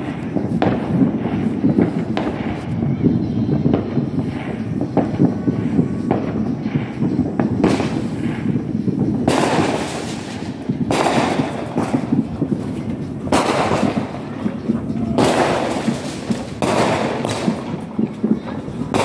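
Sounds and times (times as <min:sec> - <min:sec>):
fireworks bursting: 0:00.0 - 0:19.0
steady low rumble: 0:00.0 - 0:19.0.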